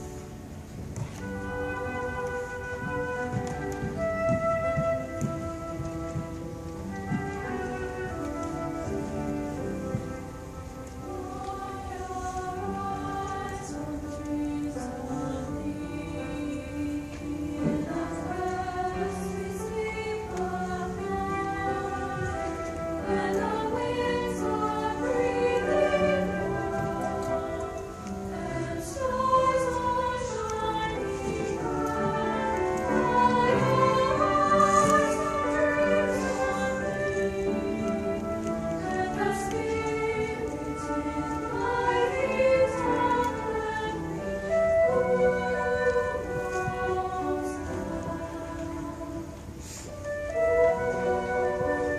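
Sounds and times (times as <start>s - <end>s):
choir singing in parts: 0.0s - 51.9s
instrumental accompaniment: 0.0s - 51.9s.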